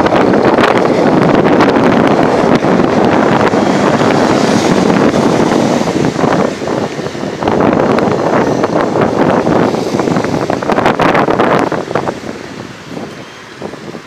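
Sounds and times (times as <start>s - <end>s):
traffic and road noise: 0.0s - 14.0s
wind buffeting microphone: 0.0s - 14.0s.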